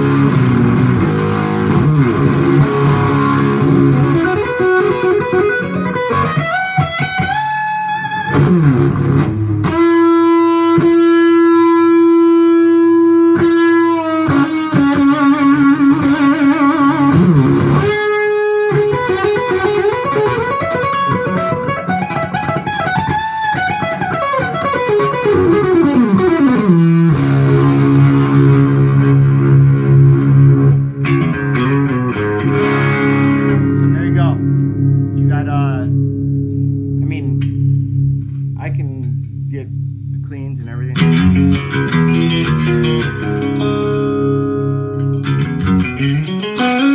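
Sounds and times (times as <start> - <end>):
fuzz electric guitar lead: 0.0 - 46.9.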